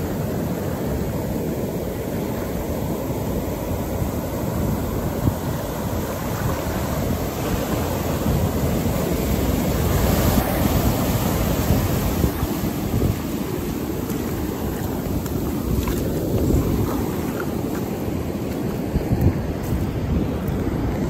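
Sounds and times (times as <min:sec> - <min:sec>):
ocean surf washing on sand: 0:00.0 - 0:21.0.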